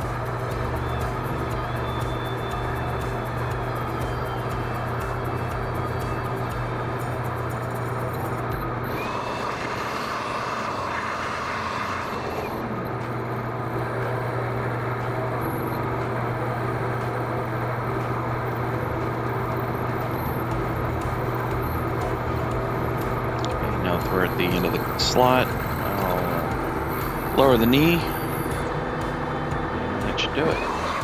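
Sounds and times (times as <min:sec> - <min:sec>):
milling machine cutting metal: 0:00.0 - 0:31.0.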